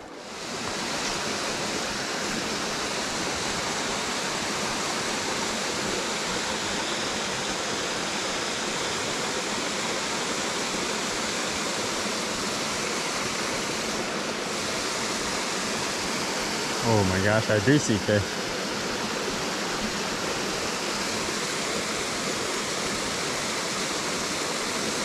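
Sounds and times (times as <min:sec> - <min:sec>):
waterfall rushing over rock: 0:00.0 - 0:25.0.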